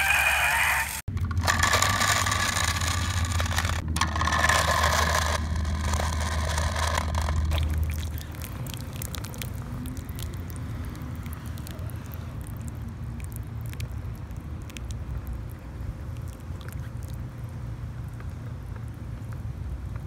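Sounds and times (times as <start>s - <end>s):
toy paddle wheels splashing water: 1.2s - 17.3s.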